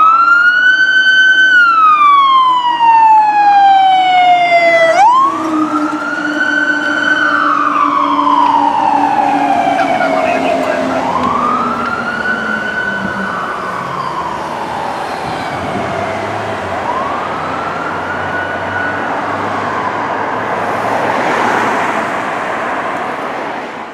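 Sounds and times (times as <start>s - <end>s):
fire engine siren wailing: 0.0s - 23.6s
engine and road noise rumble: 0.0s - 23.9s.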